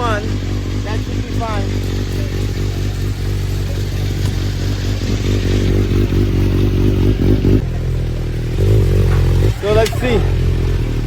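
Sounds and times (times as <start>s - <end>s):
motorcycle engine on dynamometer: 0.0s - 11.0s.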